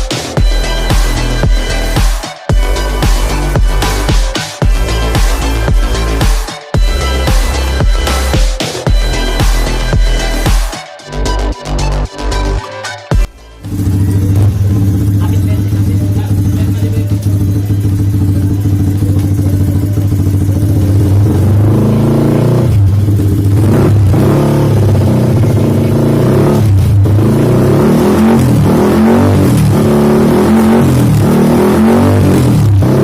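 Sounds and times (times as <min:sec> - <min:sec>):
motorcycle engine revving: 0:00.0 - 0:10.7, 0:13.6 - 0:33.0.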